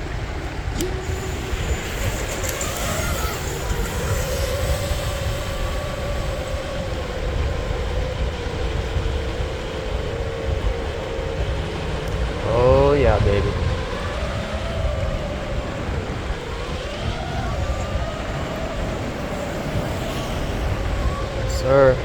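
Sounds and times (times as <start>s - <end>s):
quadcopter motors whining: 0.0s - 22.0s
wind rumble on microphone: 0.0s - 22.0s.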